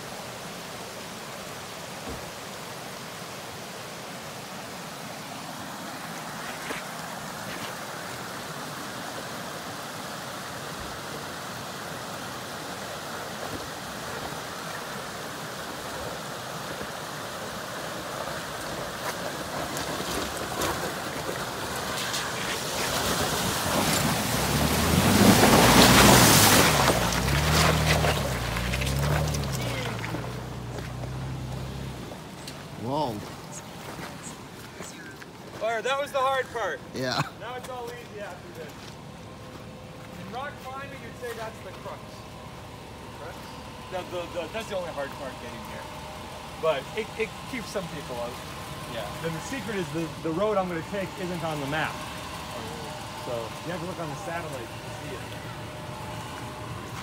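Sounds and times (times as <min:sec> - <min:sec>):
car engine: 0:00.0 - 0:57.0
running water: 0:00.0 - 0:57.0
tyres on rocky ground: 0:05.4 - 0:09.2, 0:12.9 - 0:57.0.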